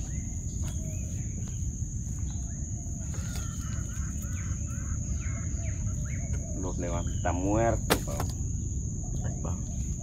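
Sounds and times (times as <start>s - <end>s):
birds chirping: 0.0s - 10.0s
high-pitched insect drone: 0.0s - 10.0s.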